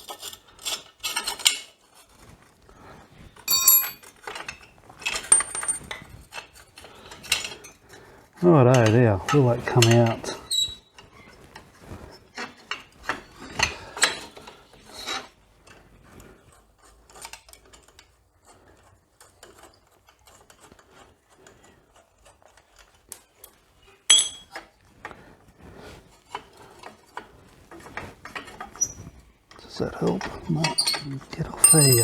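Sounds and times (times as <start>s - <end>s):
hand tools scraping and clicking: 0.0s - 2.3s, 3.3s - 32.0s.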